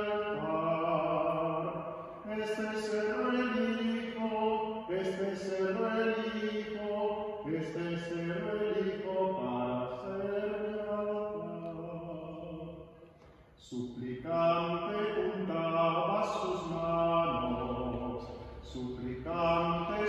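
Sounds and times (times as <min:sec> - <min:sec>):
voices singing a slow hymn: 0:00.0 - 0:12.9, 0:13.6 - 0:20.0.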